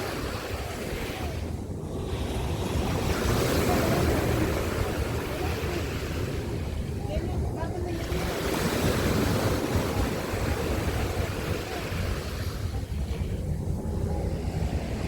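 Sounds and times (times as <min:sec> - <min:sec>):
surf waves washing onto beach: 0:00.0 - 0:15.0.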